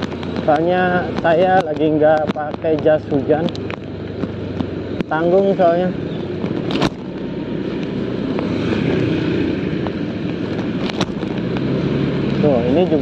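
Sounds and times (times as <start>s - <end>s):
motorcycle engine: 0.0s - 13.0s
wind and road rush: 0.0s - 13.0s.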